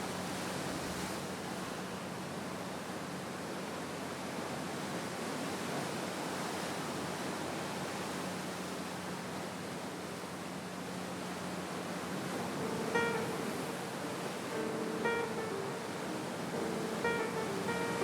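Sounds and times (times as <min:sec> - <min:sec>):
sea surf washing on shore: 0:00.0 - 0:18.0.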